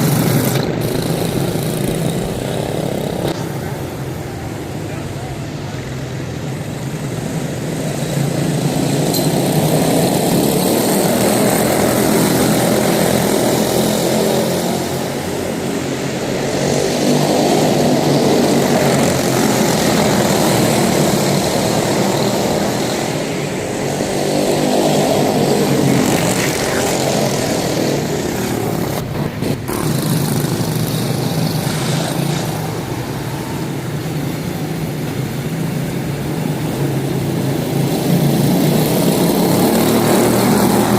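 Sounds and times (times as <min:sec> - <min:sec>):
small race car engines passing: 0:00.0 - 0:40.9.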